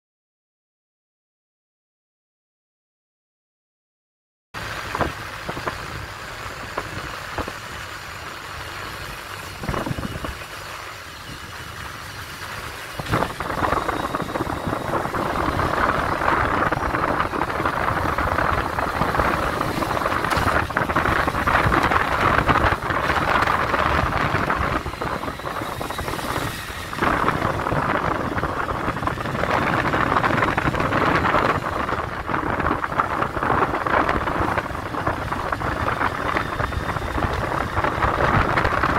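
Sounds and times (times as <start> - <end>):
wind and road noise: 4.6 - 38.9.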